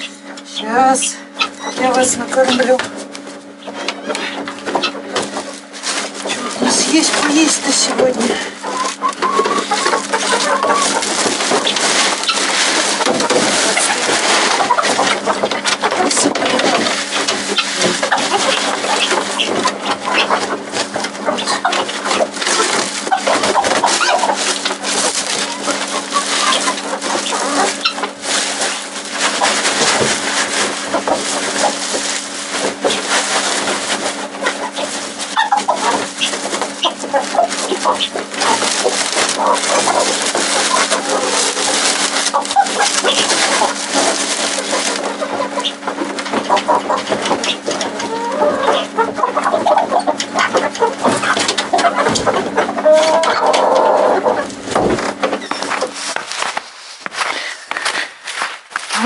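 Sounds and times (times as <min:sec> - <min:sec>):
chickens clucking: 0:00.0 - 0:59.0
steady low hum: 0:00.0 - 0:59.0.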